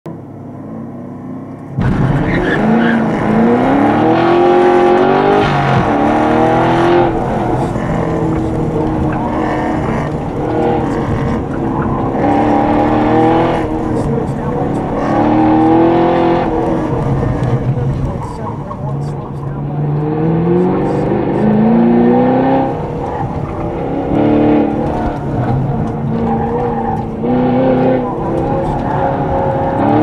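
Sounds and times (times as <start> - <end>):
car engine at full throttle: 0.1 - 30.0.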